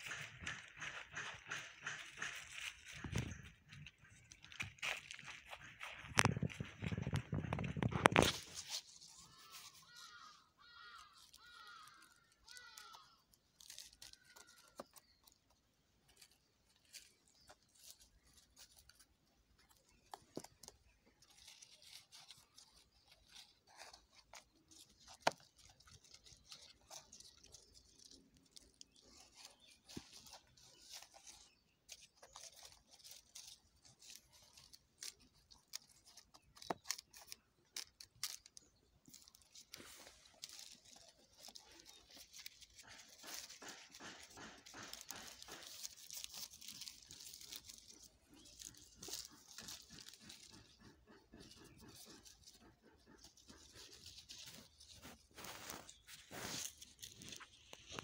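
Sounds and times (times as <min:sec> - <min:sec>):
stick scraping soil: 0:00.0 - 0:58.0.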